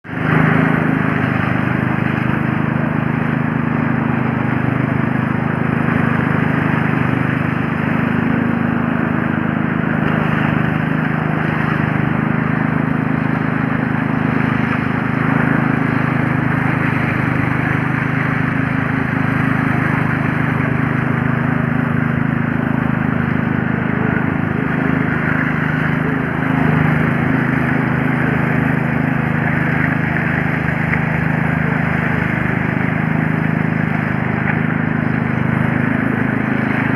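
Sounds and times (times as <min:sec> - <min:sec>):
power trowel engine running: 0:00.0 - 0:36.9.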